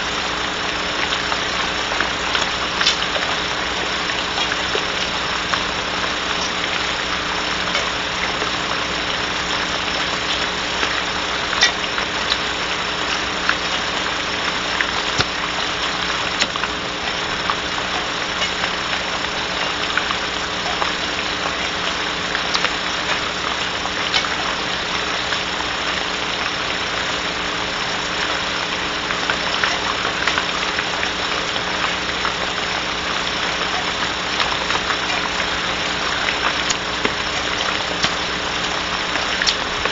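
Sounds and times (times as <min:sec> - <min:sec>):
low electrical hum: 0:00.0 - 0:39.9
steady rain on wooden box: 0:00.0 - 0:39.9.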